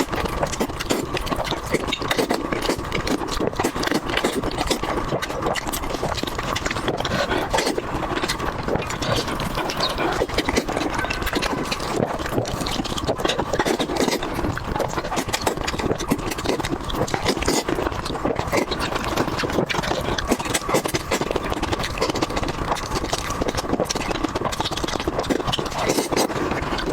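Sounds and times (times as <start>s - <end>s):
person chewing and smacking food: 0.0s - 26.9s.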